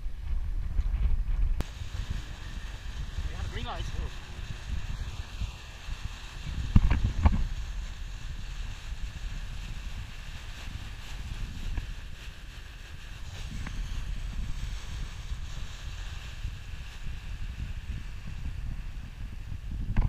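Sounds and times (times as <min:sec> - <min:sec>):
wind buffeting microphone: 0:00.0 - 0:20.0
faint hiss: 0:01.5 - 0:20.0.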